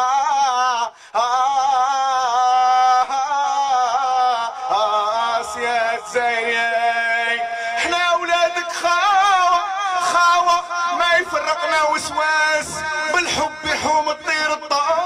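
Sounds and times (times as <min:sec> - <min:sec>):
man singing through loudspeaker: 0:00.0 - 0:15.0.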